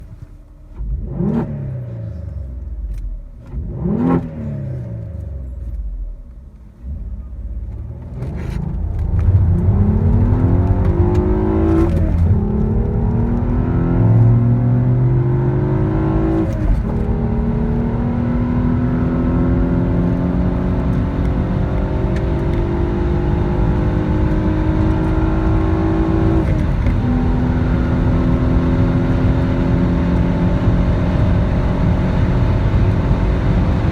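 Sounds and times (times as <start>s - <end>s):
car engine revving through gears: 0.7s - 5.9s, 6.8s - 33.9s.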